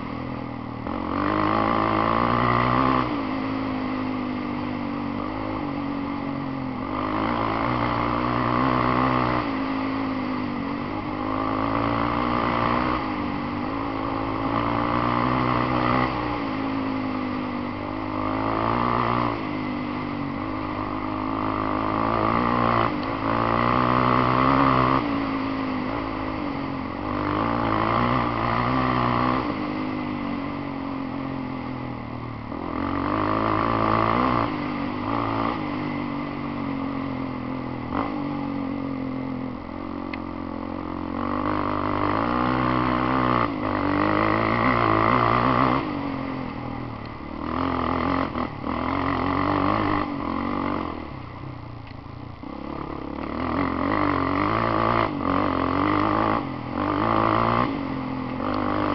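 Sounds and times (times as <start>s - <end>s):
quad engine revving: 0.0s - 58.9s.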